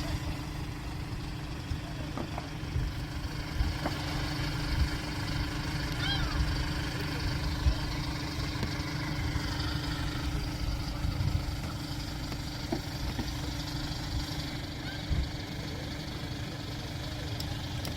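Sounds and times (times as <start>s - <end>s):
low engine drone: 0.0s - 17.9s.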